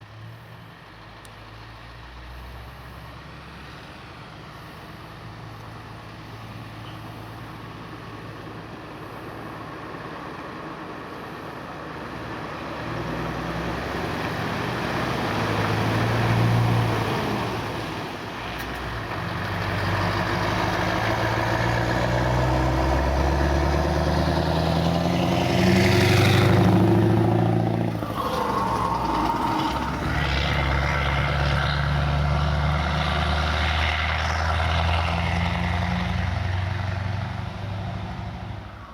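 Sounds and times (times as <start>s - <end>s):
truck diesel engine driving by: 0.0s - 38.9s.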